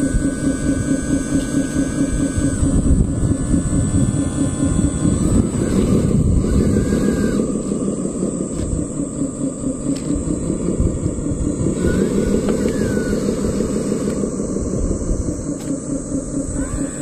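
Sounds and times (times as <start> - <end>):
model truck mechanical drone: 0.0 - 17.0
thin high whine: 0.0 - 17.0.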